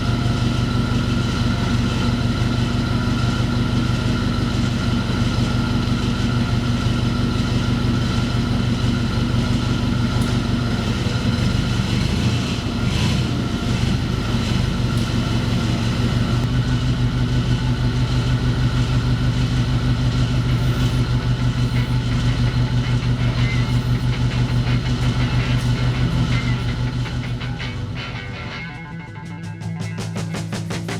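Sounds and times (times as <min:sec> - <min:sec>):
engine running steadily: 0:00.0 - 0:30.9.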